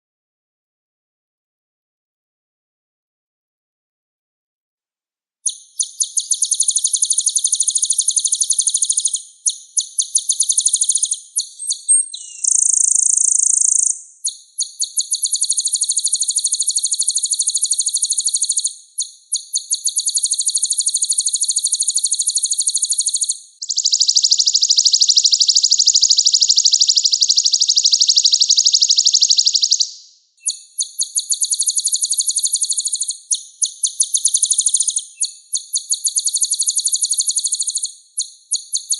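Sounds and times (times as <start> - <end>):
sunbird singing rapid trills: 5.5 - 38.9.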